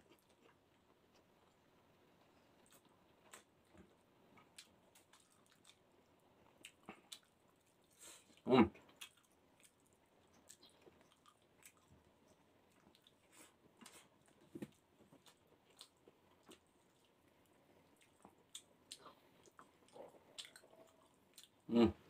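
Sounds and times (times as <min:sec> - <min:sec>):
person chewing with wet clicks: 0:00.0 - 0:01.7, 0:02.6 - 0:21.7.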